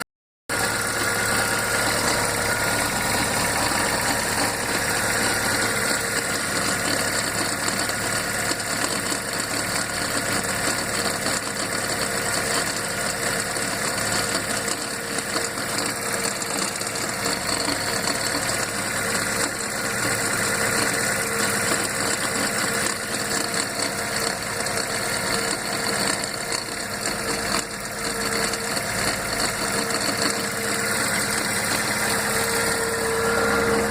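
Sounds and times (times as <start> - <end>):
car engine running: 0.5 - 33.9
gearbox bearing noise: 0.5 - 33.9.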